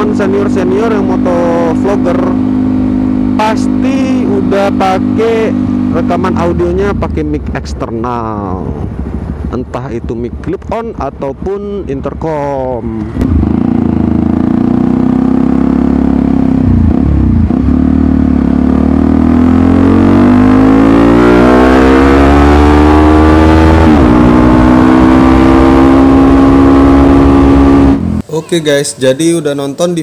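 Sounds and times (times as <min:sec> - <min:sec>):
motorcycle engine accelerating: 0:00.0 - 0:28.2.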